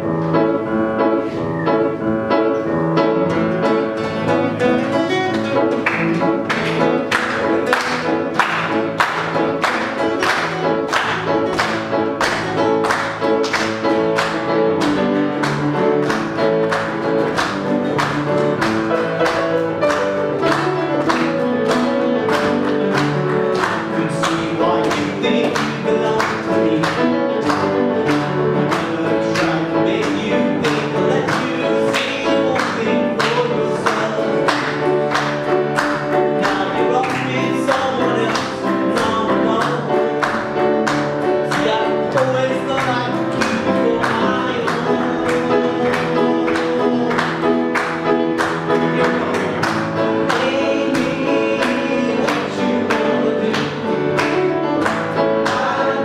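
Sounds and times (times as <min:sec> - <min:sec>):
person singing: 0:03.7 - 0:56.0.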